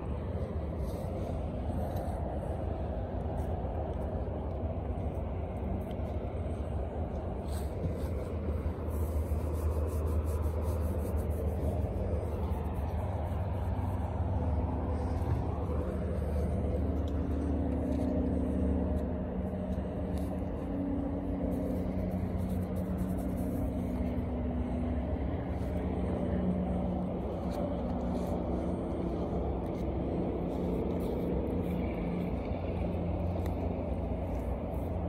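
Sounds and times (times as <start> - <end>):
low engine hum: 0.0 - 35.0.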